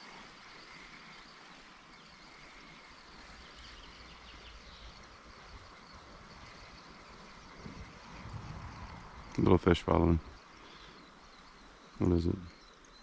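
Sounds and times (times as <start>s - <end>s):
creek hiss: 0.0s - 13.0s.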